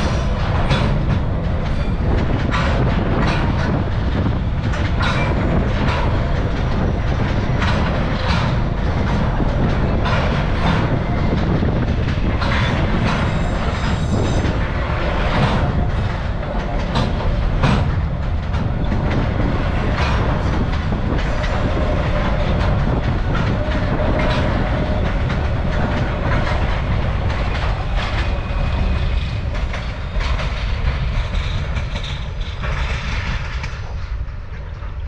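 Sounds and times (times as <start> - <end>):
train rumbling past: 0.0 - 35.0
wheels clicking over rail joints: 0.0 - 35.0.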